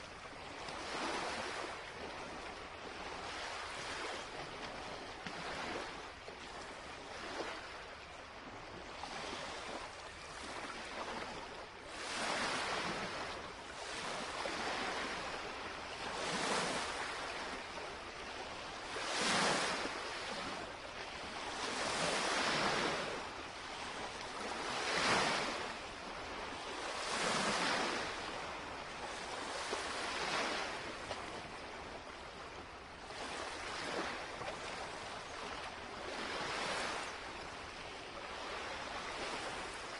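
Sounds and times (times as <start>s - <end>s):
waves lapping on shore: 0.0s - 39.9s.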